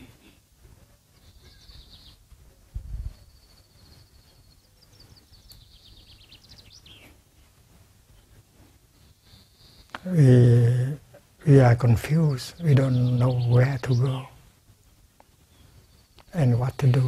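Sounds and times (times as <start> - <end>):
low steady background hum: 0.0 - 17.0
small bird singing: 1.1 - 7.3, 8.1 - 17.0.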